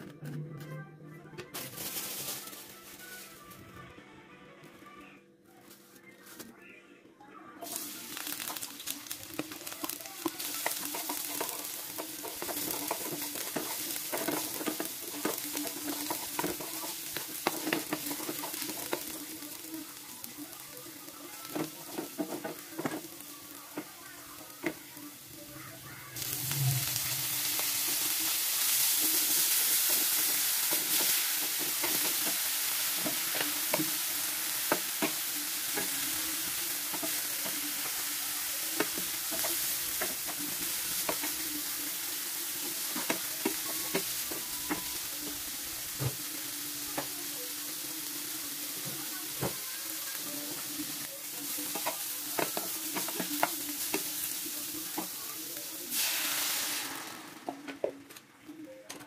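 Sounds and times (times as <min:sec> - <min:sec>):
food sizzling in hot oil: 0:01.6 - 0:03.5, 0:07.6 - 0:57.6.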